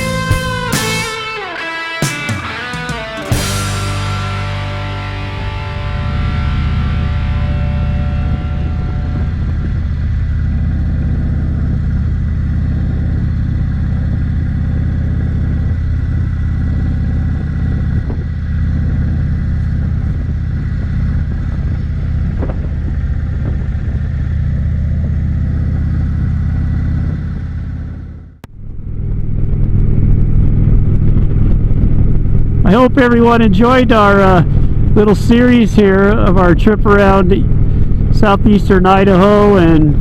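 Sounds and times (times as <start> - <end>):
motorcycle engine running: 0.0 - 40.0
road and wind noise: 0.0 - 40.0.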